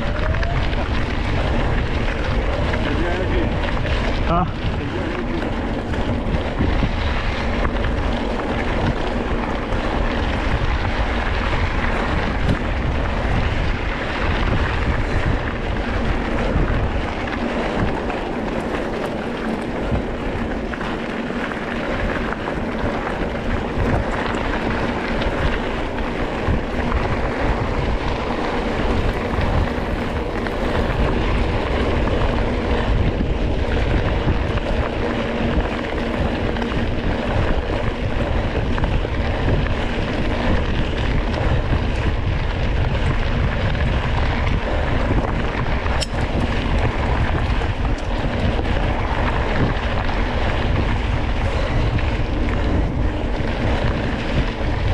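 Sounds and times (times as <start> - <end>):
low rumble of bike on trail: 0.0 - 54.9
wind rushing over microphone: 0.0 - 54.9.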